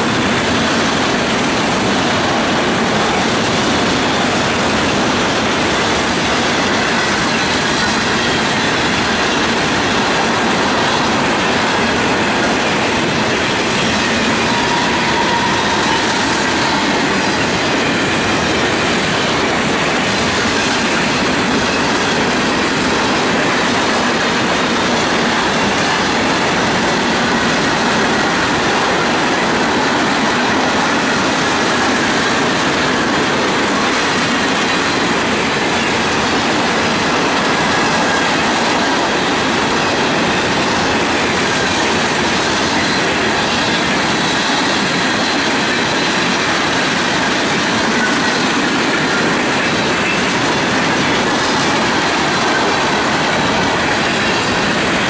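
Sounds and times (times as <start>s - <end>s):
freight train rolling past: 0.0s - 55.0s
steel wheels clattering on rail: 0.0s - 55.0s.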